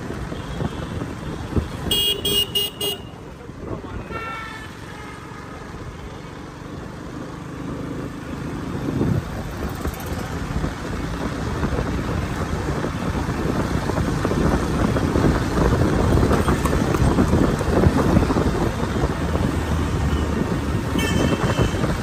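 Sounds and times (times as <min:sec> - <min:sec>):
traffic noise from moving vehicle: 0:00.0 - 0:22.0.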